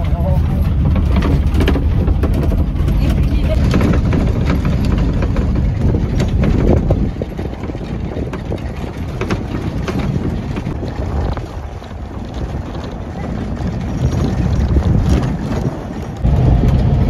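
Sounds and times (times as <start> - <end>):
tyres rumbling on gravel: 0.0 - 17.0
wind buffeting microphone: 0.0 - 17.0.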